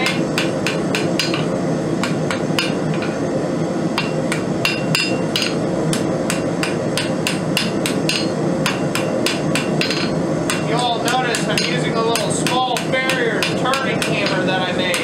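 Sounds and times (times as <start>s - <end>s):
hammer striking steel on anvil: 0.0s - 3.2s, 4.0s - 15.0s.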